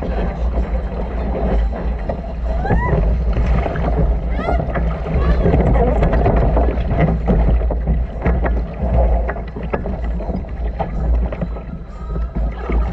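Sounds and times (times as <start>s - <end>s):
water splashing along hull: 0.0s - 12.9s
wind rumble on microphone: 0.0s - 12.9s.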